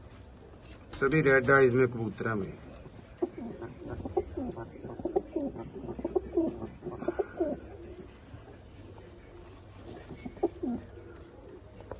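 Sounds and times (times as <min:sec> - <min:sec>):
pigeons cooing: 0:00.4 - 0:11.9.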